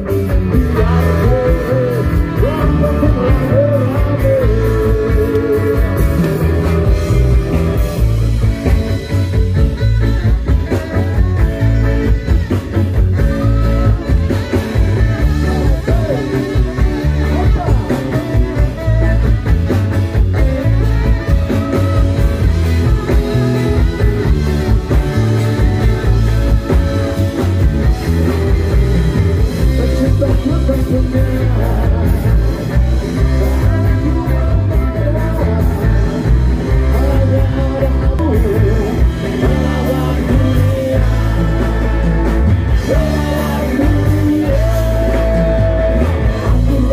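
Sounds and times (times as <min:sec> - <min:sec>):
person singing: 0:00.0 - 0:08.0, 0:12.0 - 0:20.0, 0:20.6 - 0:46.9
live band playing ska-rock: 0:00.0 - 0:46.9.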